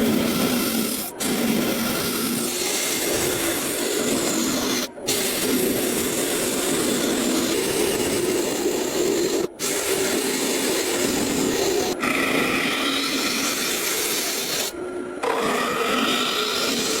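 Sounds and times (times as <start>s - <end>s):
tool grinding wood: 0.0s - 17.0s.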